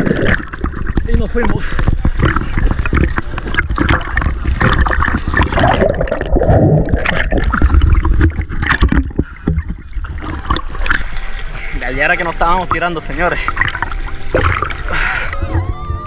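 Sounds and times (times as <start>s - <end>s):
river water splashing and gurgling: 0.0s - 15.7s
swimmer churning water: 0.0s - 15.9s
underwater bubbling: 0.0s - 15.9s.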